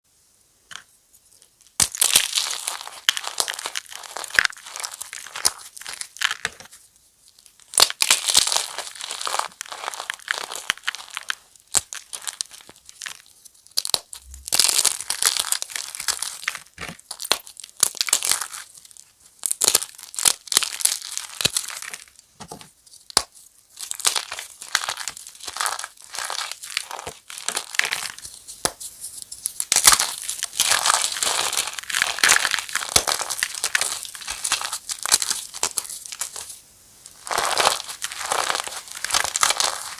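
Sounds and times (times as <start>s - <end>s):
chalk crackling and crunching: 0.7s - 39.9s.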